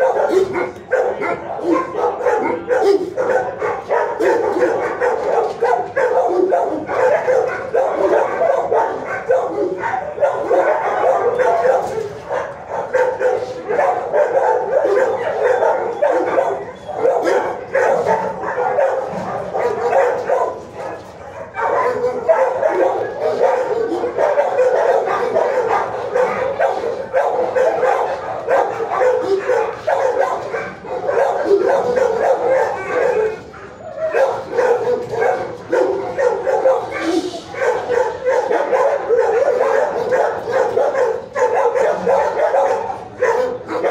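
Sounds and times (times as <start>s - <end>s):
dogs barking and yipping: 0.0s - 43.9s.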